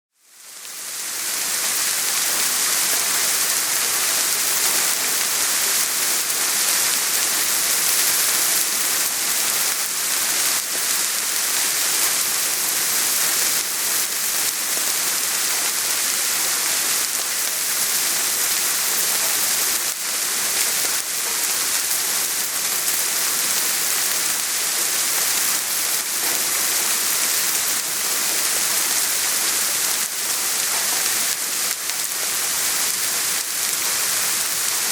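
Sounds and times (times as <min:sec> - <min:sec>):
soft rain falling: 0:00.2 - 0:34.9.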